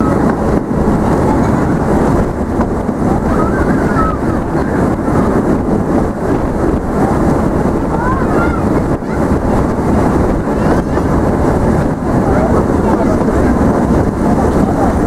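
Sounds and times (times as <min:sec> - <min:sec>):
train rumbling: 0:00.0 - 0:15.0
wind on microphone: 0:00.0 - 0:15.0.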